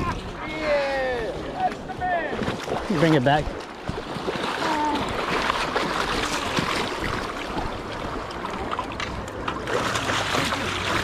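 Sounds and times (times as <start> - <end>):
fast-flowing river water: 0.0 - 11.0.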